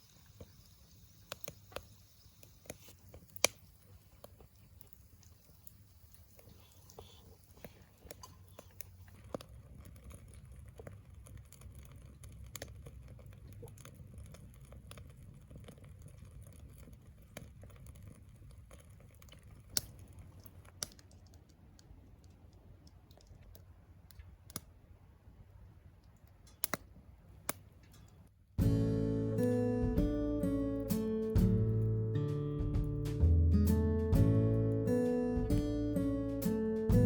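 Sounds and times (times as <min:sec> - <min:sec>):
wood crackling and popping: 0:00.0 - 0:25.1, 0:25.9 - 0:37.0
low rumble of fire: 0:00.0 - 0:37.0.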